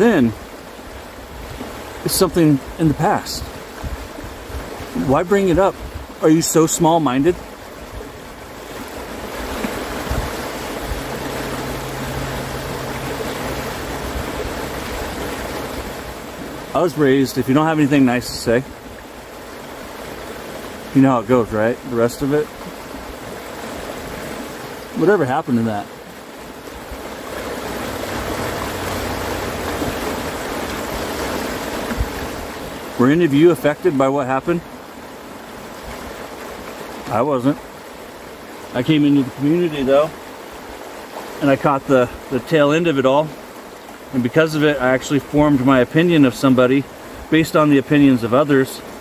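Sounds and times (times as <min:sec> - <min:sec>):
river rapids rushing: 0:00.0 - 0:49.0.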